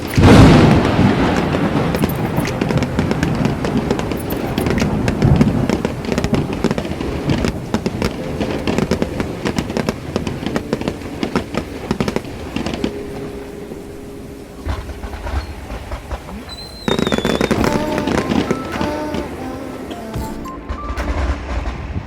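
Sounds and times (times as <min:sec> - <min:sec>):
fireworks booming: 0:00.0 - 0:22.0
fireworks crackling pops: 0:00.0 - 0:22.0.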